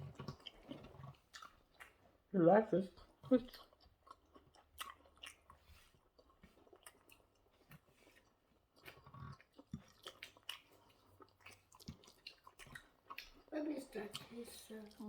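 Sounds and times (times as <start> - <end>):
person chewing: 0.0 - 2.2, 2.9 - 15.0.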